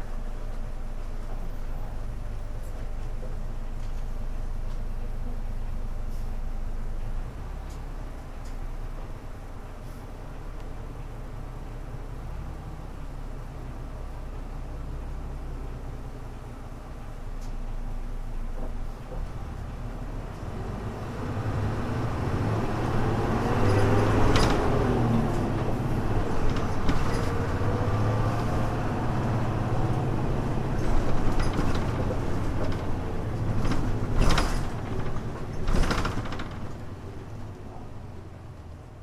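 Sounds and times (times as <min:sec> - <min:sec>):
bus diesel engine whining: 0:00.0 - 0:39.0.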